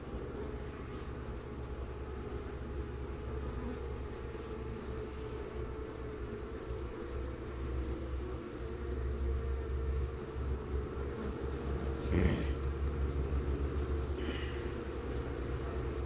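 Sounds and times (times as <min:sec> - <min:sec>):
bees humming: 0:00.0 - 0:16.0.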